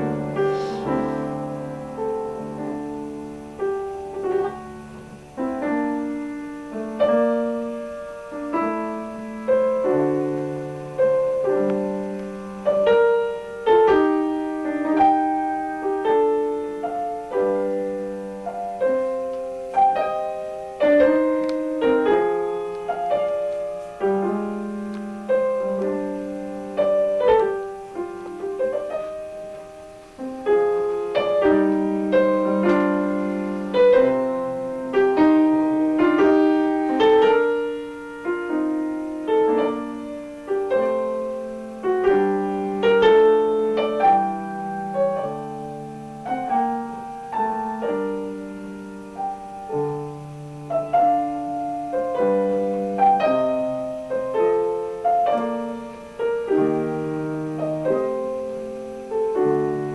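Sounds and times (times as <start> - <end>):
piano playing chords: 0.0 - 59.9.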